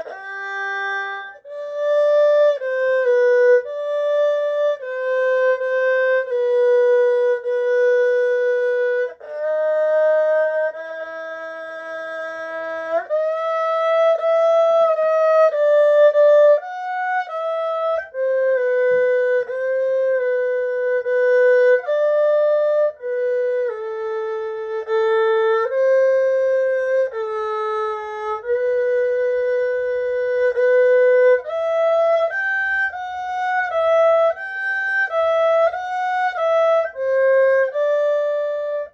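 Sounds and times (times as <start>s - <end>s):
bowed erhu slow melody: 0.0s - 38.9s.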